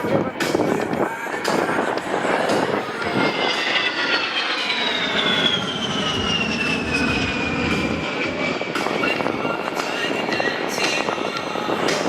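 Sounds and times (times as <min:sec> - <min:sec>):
jet engines high whine: 0:00.0 - 0:12.0
jet noise rushing: 0:00.5 - 0:12.0.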